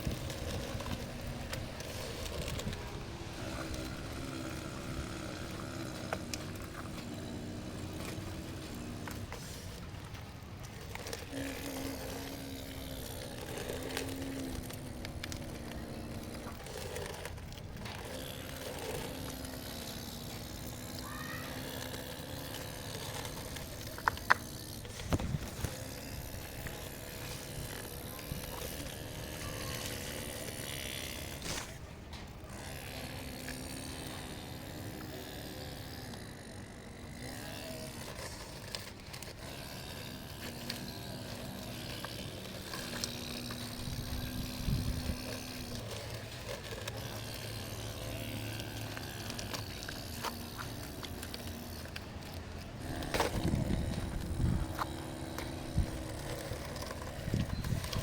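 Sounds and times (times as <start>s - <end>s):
model excavator motors whirring: 0.0s - 58.0s.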